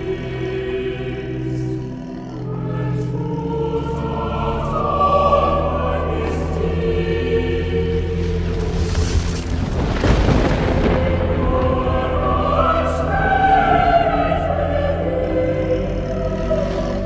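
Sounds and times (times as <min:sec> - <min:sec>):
choral music with held notes: 0:00.0 - 0:17.0.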